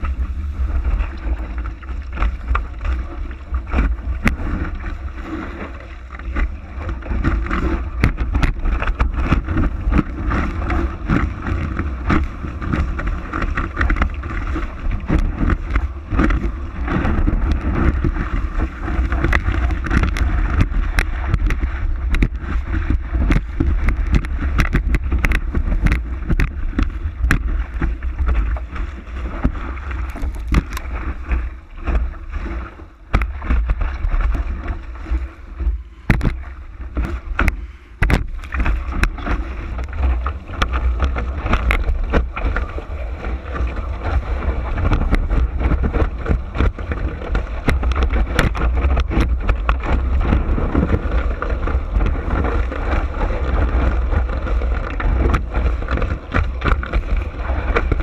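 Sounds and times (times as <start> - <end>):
constant low rumble: 0.0 - 58.0
water rushing and splashing: 0.0 - 58.0
wind buffeting microphone: 0.0 - 58.0.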